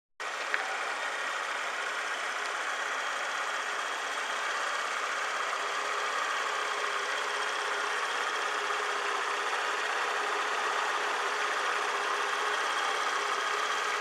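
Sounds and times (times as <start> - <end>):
scooter engine idling: 0.2 - 14.0.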